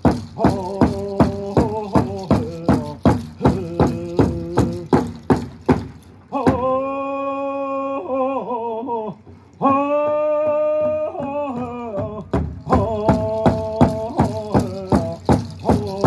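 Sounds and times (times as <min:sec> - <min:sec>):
drumbeat: 0:00.0 - 0:06.8, 0:09.7 - 0:16.0.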